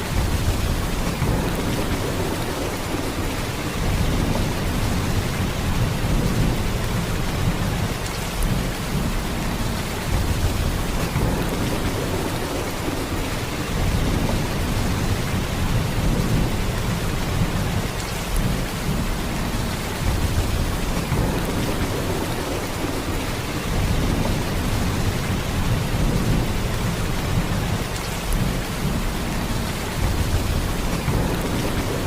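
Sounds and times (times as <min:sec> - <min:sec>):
heavy rain downpour: 0:00.0 - 0:32.0.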